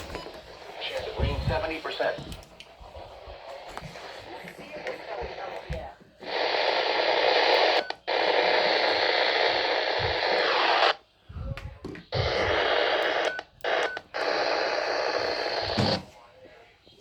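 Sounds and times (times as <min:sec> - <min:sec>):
radio static hiss: 0:00.0 - 0:11.1, 0:11.7 - 0:16.3.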